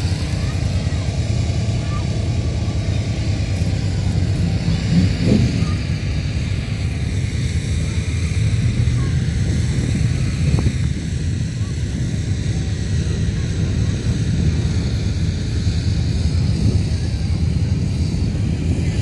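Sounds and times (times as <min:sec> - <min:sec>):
engines rumbling: 0:00.0 - 0:19.0.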